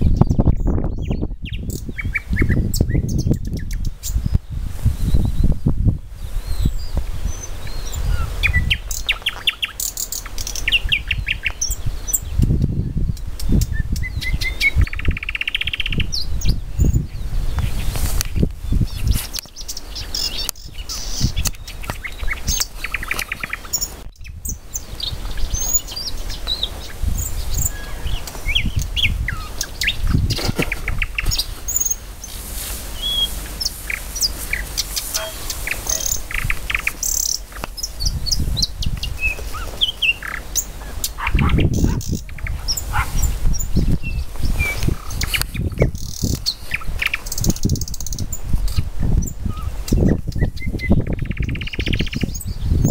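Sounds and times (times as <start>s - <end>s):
songbirds singing: 0.0s - 52.9s
wind rumbling on microphone: 0.0s - 52.9s.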